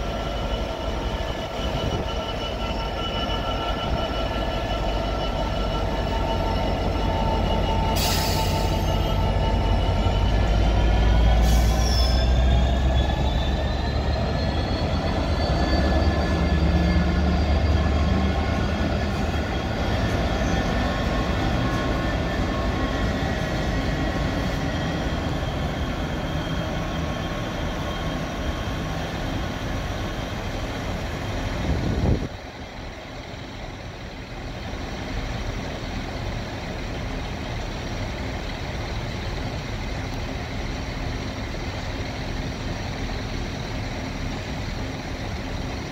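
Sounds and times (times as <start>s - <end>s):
diesel locomotives rumbling past: 0.0s - 45.9s.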